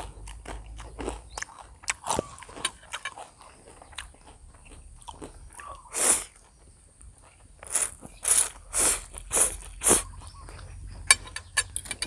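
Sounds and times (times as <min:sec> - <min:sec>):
person eating noisily: 0:00.0 - 0:11.4.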